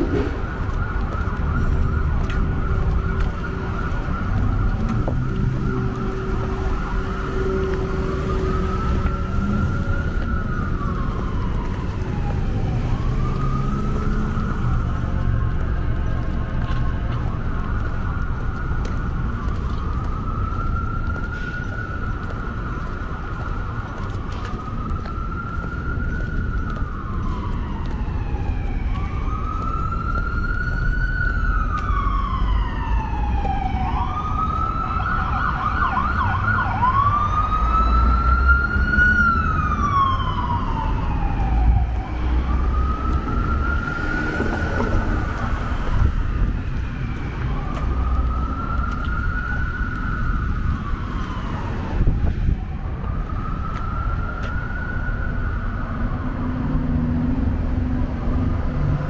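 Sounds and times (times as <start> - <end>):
emergency vehicle siren wailing: 0.0 - 59.0
low rumble of street traffic: 0.0 - 59.0.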